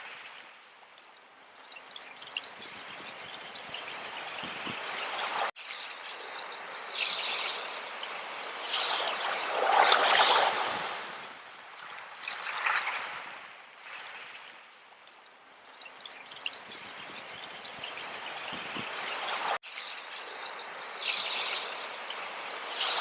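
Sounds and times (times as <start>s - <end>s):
sea water washing over shells: 0.0s - 23.0s.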